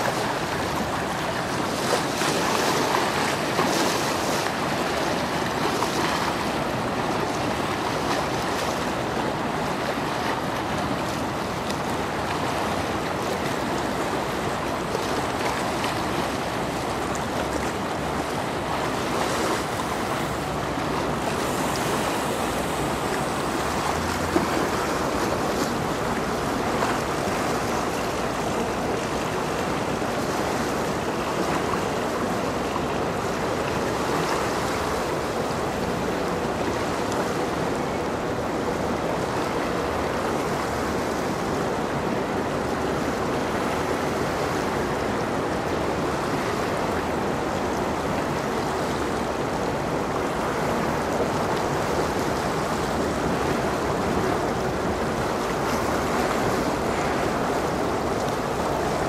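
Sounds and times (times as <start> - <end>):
faint ship hum: 0.0 - 59.0
water splashing and lapping: 0.0 - 59.0.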